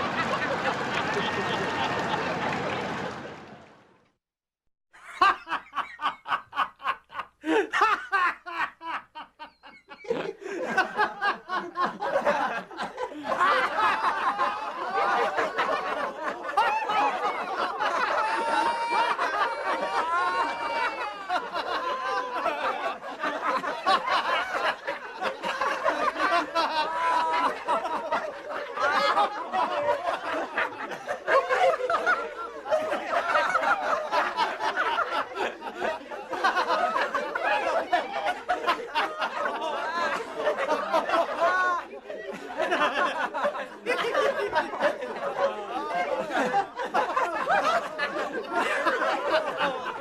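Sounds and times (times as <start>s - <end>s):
group of people laughing: 0.0s - 3.5s, 5.0s - 50.0s.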